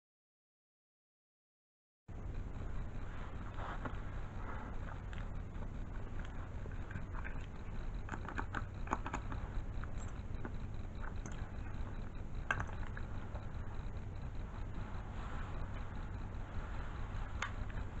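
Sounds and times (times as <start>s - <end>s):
steady low hum: 2.1s - 18.0s.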